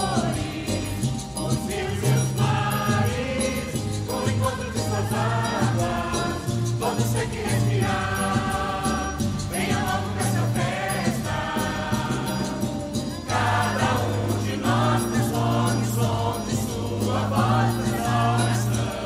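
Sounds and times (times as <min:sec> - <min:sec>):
backing music with jingle bells: 0:00.0 - 0:19.0
choir singing: 0:00.0 - 0:19.0.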